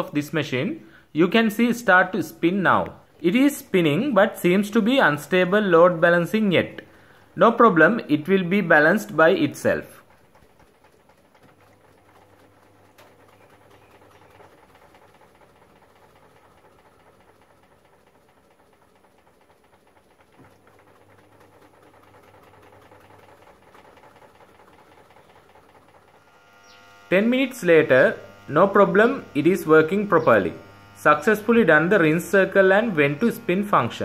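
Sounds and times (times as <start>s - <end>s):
washing machine motor humming: 0.0s - 34.0s.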